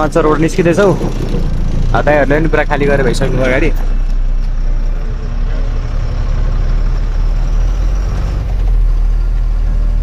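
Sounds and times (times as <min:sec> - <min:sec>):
truck diesel engine rumble: 0:00.0 - 0:10.0.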